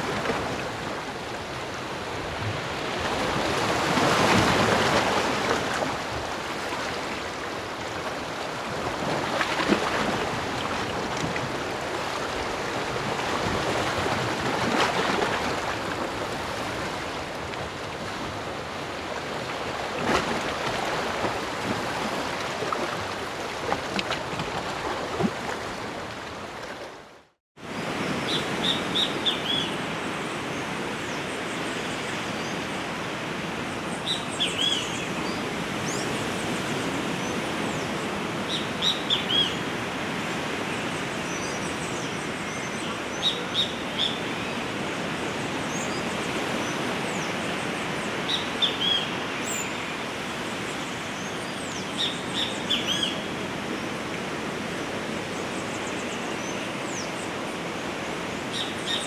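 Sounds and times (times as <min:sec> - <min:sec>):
ocean surf on a beach: 0:00.0 - 0:59.0.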